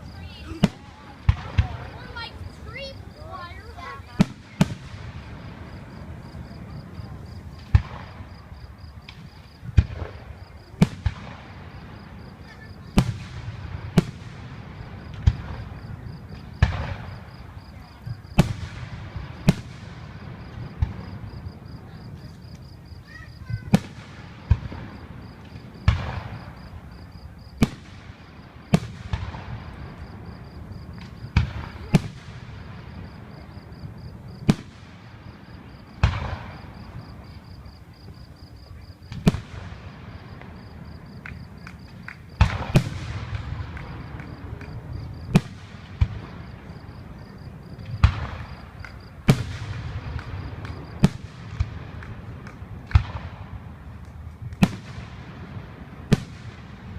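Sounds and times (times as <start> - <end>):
fireworks booming: 0.0 - 56.9.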